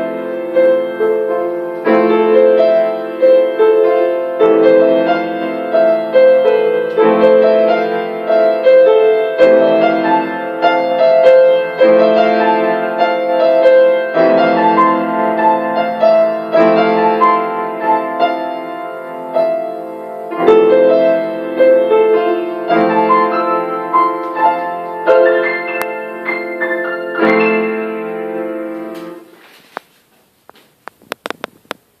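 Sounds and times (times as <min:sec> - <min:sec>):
solo piano: 0:00.0 - 0:29.4.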